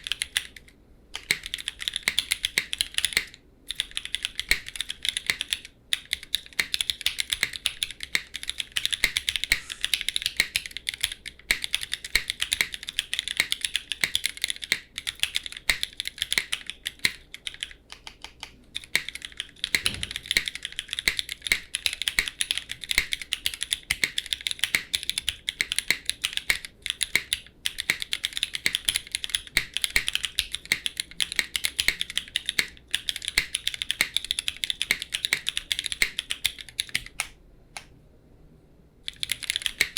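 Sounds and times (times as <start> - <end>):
fast typing on mechanical keyboard: 0.0 - 37.3, 39.1 - 39.9.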